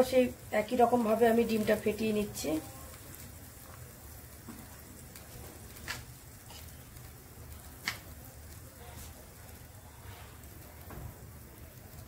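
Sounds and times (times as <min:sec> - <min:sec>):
eggplant sizzling in hot oil: 0:00.0 - 0:12.0.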